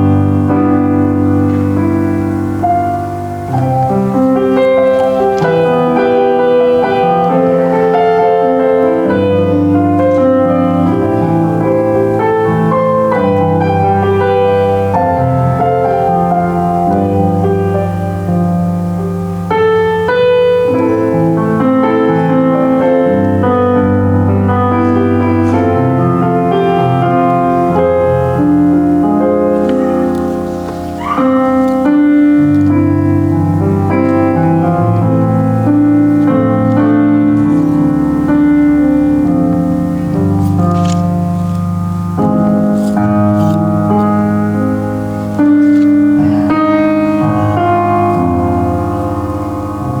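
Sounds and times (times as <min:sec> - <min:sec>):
solo piano piece: 0:00.0 - 0:50.0.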